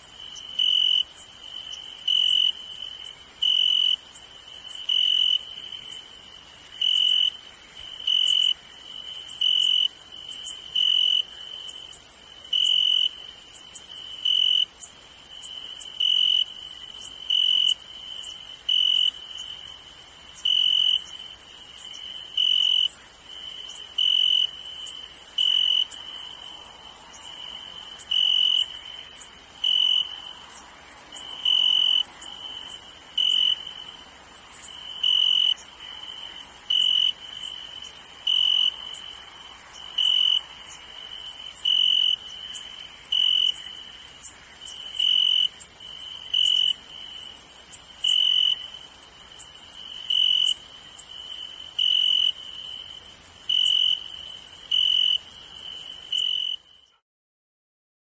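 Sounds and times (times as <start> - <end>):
crickets trilling: 0.0 - 56.9
loud cricket chirps: 0.0 - 57.0.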